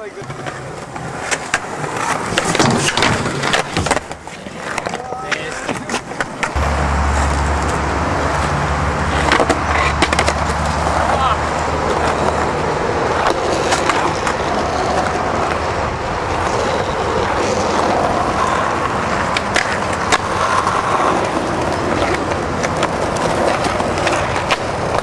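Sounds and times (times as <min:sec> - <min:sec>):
skateboard clacks: 0:00.0 - 0:06.6, 0:07.2 - 0:25.0
skateboard scraping concrete: 0:00.0 - 0:25.0
skateboard wheels rolling on asphalt: 0:00.0 - 0:25.0.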